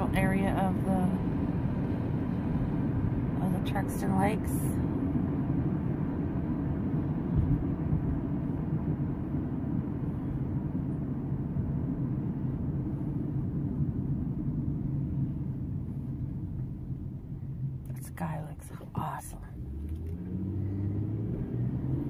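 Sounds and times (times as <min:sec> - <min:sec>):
car cabin road rumble: 0:00.0 - 0:22.0.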